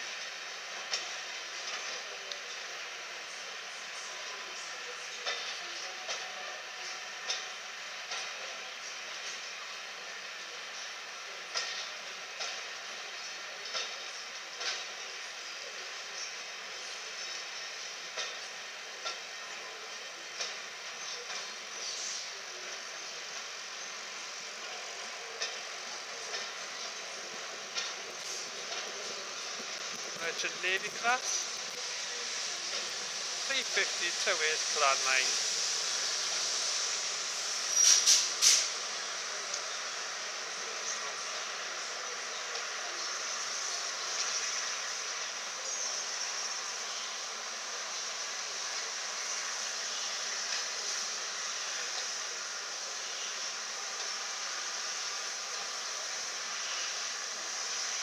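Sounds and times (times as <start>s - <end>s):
steam train hissing: 0.0s - 58.0s.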